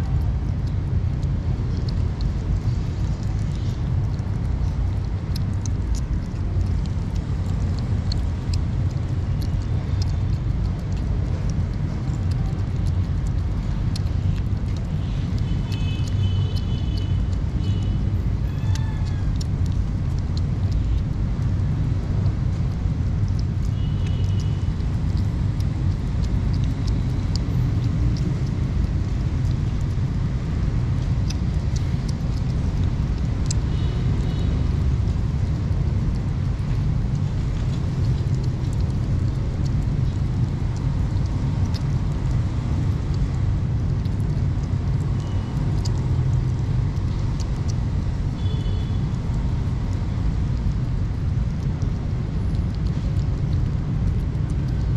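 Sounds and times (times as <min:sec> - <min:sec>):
kittens chewing wet food: 0:00.0 - 0:54.9
steady low rumble: 0:00.0 - 0:54.9.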